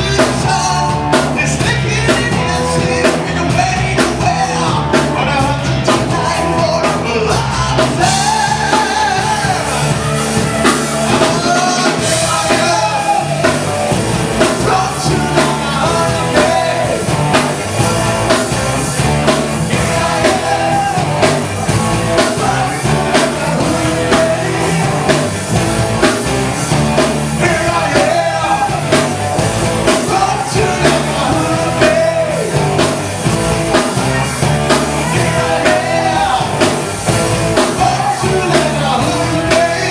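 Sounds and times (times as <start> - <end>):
person singing: 0.0 - 19.0, 19.7 - 25.4, 27.0 - 33.0, 33.8 - 39.9
rock band playing live: 0.0 - 39.9
steady drum beat: 0.0 - 39.9.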